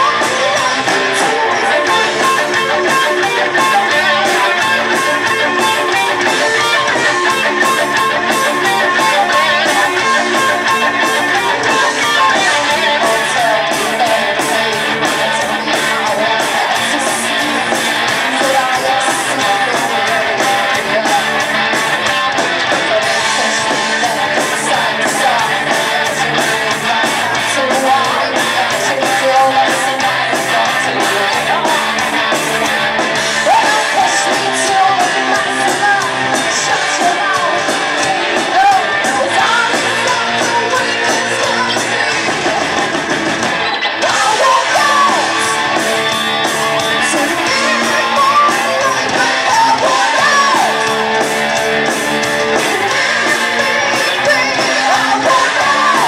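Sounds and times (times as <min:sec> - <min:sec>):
person singing: 0:00.0 - 0:56.0
rock band playing live: 0:00.0 - 0:56.0.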